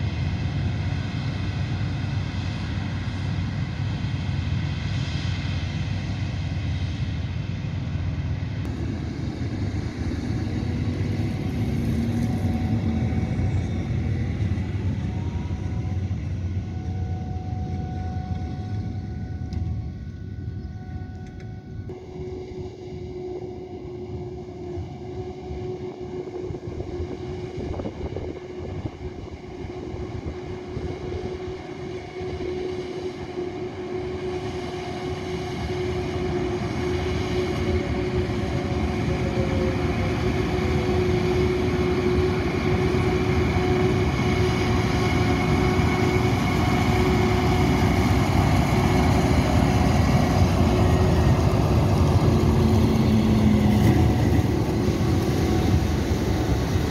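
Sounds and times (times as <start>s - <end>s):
tractor engine: 0.0s - 23.0s, 30.0s - 56.9s
forage harvester humming: 0.0s - 56.9s.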